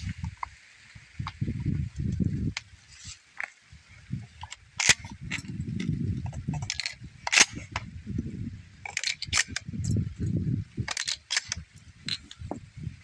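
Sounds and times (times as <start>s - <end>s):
low rumbling handling noise: 0.0s - 13.0s.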